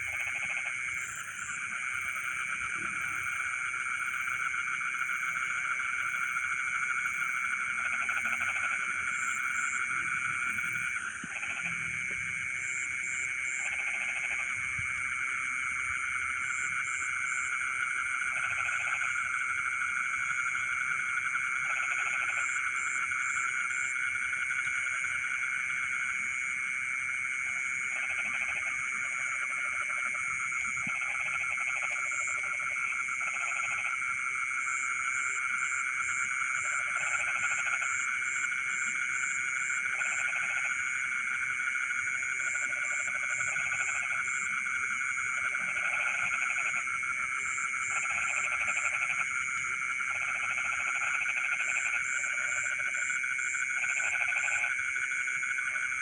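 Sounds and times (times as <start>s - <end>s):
frog chorus trilling: 0.0s - 56.0s
low frog croaking: 0.0s - 56.0s.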